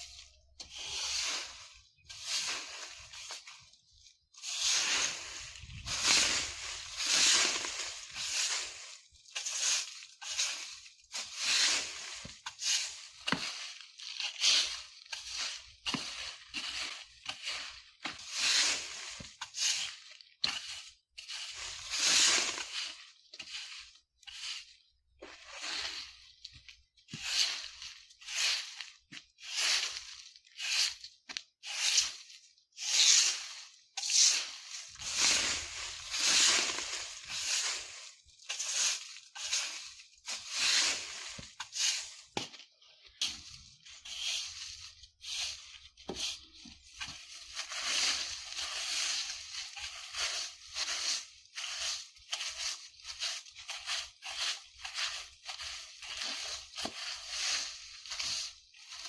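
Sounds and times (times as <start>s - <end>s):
broom sweeping dry leaves: 0.0s - 59.0s.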